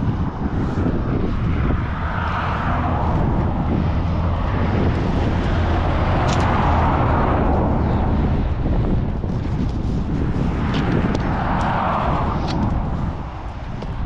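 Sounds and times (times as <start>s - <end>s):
low engine rumble: 0.0s - 14.0s
rushing noise: 0.0s - 14.0s.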